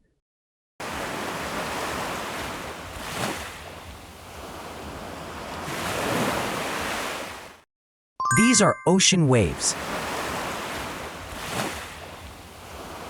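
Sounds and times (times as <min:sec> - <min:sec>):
ocean waves washing ashore: 0:00.8 - 0:07.6, 0:09.3 - 0:13.0.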